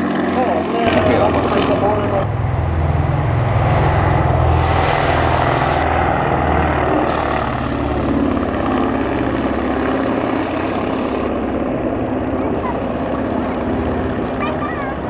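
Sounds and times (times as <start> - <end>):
aircraft radial engines passing: 0.0 - 15.0.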